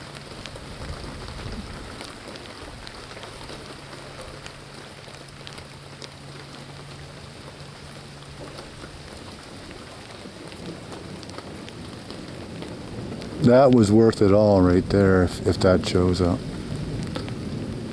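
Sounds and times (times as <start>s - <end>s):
raindrops ticking: 0.0s - 17.9s
steady rain falling: 0.0s - 17.9s.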